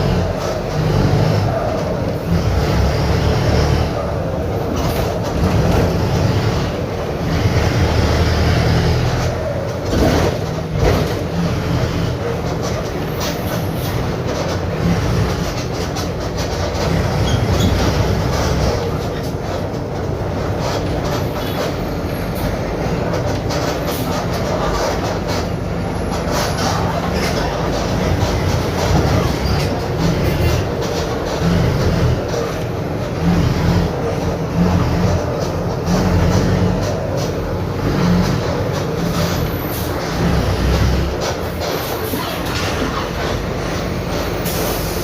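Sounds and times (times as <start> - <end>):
diesel bus engine rumbling: 0.0 - 45.0.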